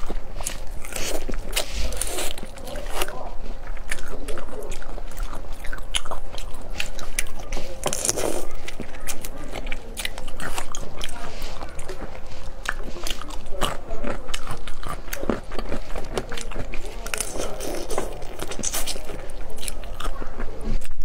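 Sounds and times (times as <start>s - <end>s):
chewing with crunches: 0.0s - 21.0s.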